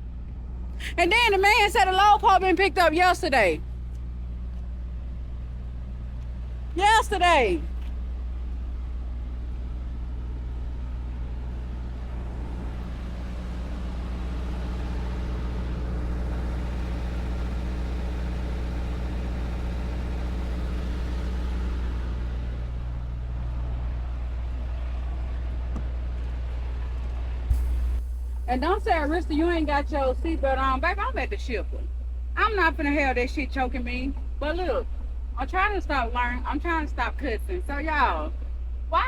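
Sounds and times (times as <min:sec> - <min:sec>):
diesel truck engine idling: 0:00.0 - 0:39.0.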